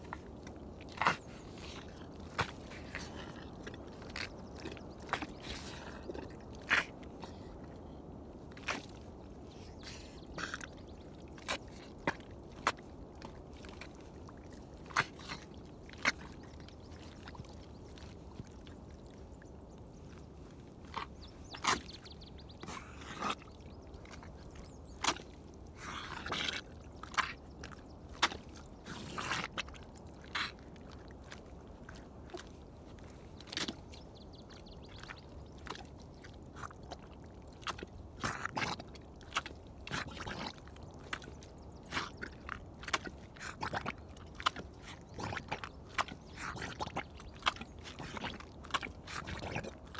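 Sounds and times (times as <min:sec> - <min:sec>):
boots squelching in mud: 0:00.0 - 0:49.9.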